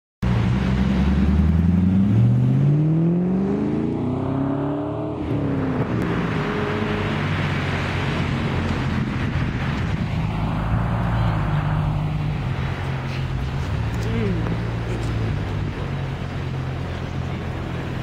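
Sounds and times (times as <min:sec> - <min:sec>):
car engine accelerating: 0:00.2 - 0:18.0.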